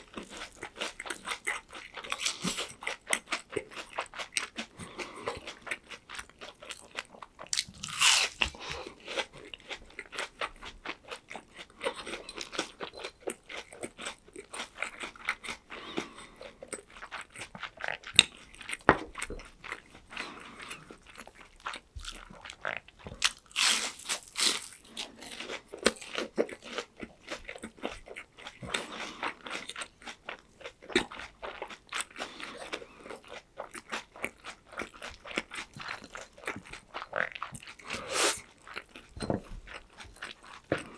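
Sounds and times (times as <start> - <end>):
crunchy chewing: 0.0 - 39.1.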